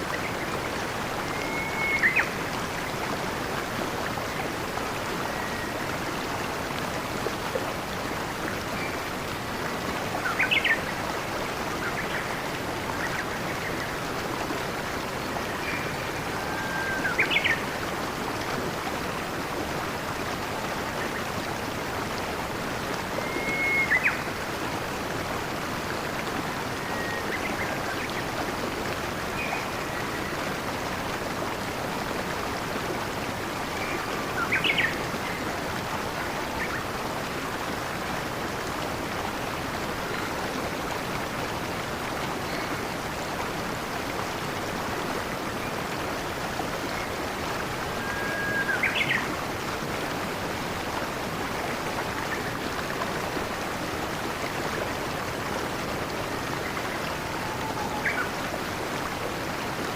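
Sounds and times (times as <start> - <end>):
rushing stream water: 0.0 - 59.9.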